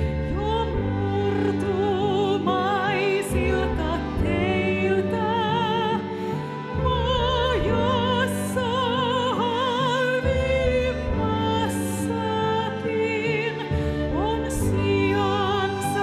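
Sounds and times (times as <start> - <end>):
low instrumental accompaniment: 0.0 - 16.0
woman singing opera: 0.0 - 16.0.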